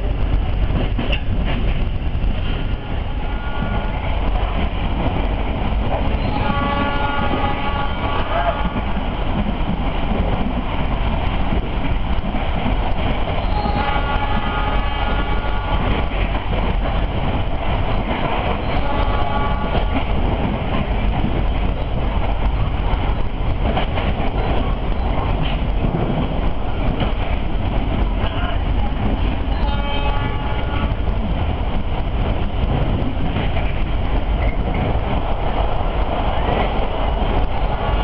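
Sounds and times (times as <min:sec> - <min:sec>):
train wheels rumbling and rattling: 0:00.0 - 0:38.0.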